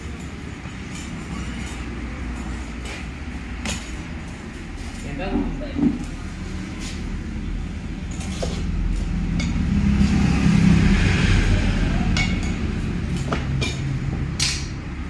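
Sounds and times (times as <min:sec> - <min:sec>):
engine-like rumble: 0:00.0 - 0:15.0.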